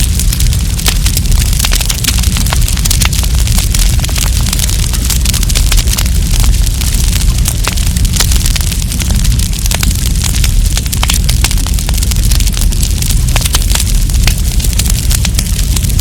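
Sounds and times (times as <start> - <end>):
campfire crackling and popping: 0.0 - 16.0
low steady rumble: 0.0 - 16.0.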